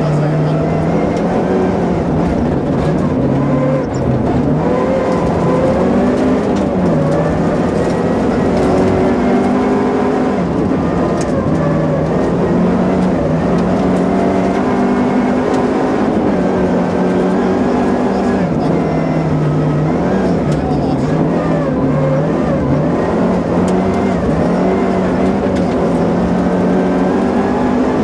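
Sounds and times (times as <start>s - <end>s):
rally car engine revving: 0.0s - 28.0s
tyre road noise on snow: 0.0s - 28.0s.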